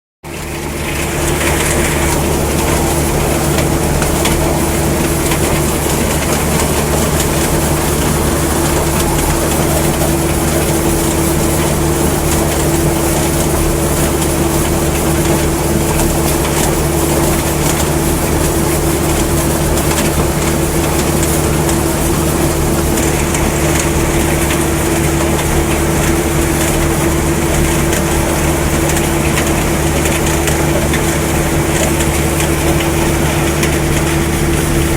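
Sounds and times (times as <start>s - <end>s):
tractor engine drone: 0.2s - 34.9s
machinery noise: 0.3s - 34.9s.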